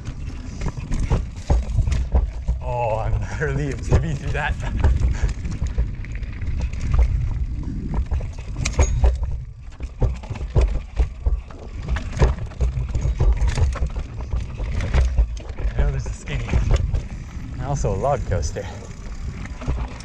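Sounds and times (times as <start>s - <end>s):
bike clattering over rocks: 0.0s - 20.0s
bike tyres rumbling over stones: 0.0s - 20.0s.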